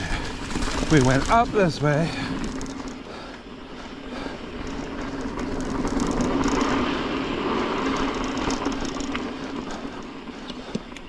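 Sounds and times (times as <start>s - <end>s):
bike rattling and clicking: 0.0s - 11.0s
bike tyres rumbling on dirt: 0.0s - 11.0s.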